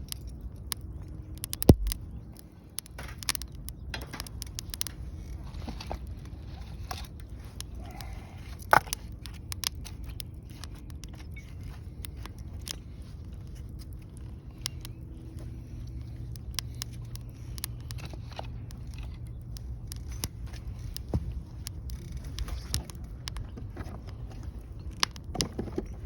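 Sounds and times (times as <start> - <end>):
low steady rumble: 0.0 - 26.0
wood fire crackling: 0.0 - 26.0.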